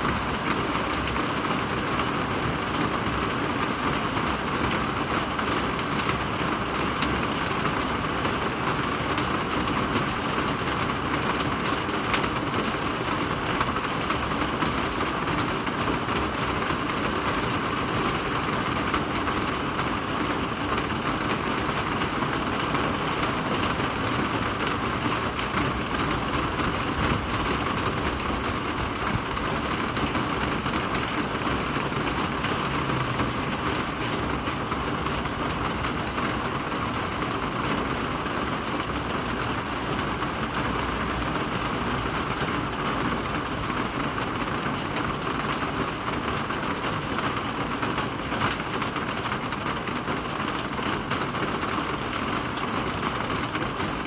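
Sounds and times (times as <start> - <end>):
raindrops ticking on hard surface: 0.0 - 54.0
rainfall: 0.0 - 54.0.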